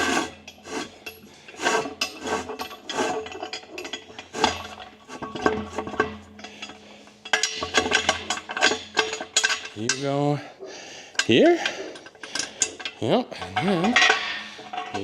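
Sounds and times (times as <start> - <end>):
metallic clinks and scrapes: 0.0 - 10.4, 11.1 - 15.0.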